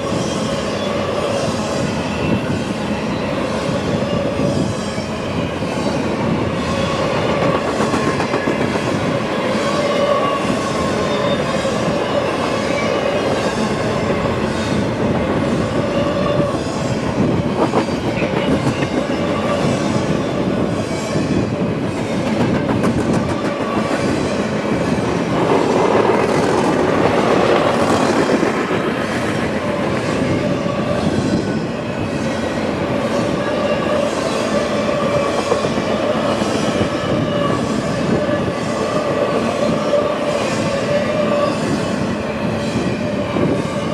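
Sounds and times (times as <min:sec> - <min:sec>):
freight train rumbling and clattering: 0:00.0 - 0:43.9.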